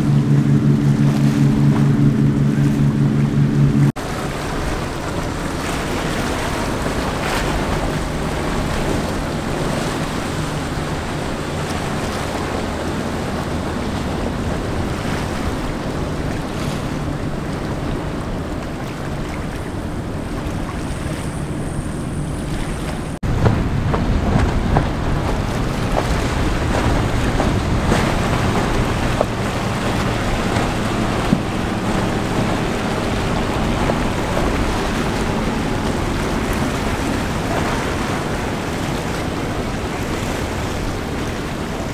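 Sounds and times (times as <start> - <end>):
boat wash: 0.0 - 41.9
outboard engines at speed: 0.0 - 41.9
wind noise on microphone: 0.0 - 41.9.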